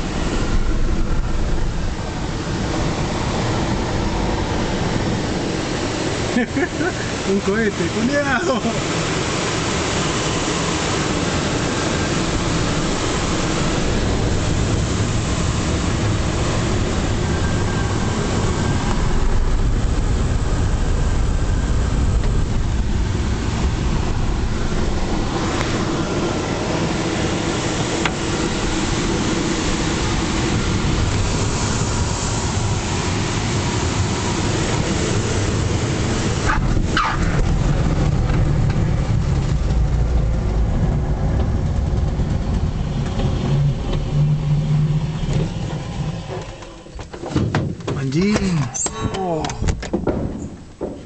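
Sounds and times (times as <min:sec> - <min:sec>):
rush of air over canopy: 0:00.0 - 0:51.0.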